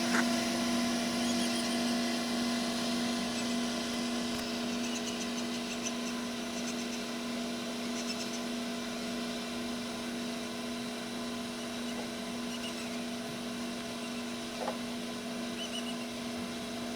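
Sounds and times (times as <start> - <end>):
incubator motor humming: 0.0 - 16.9.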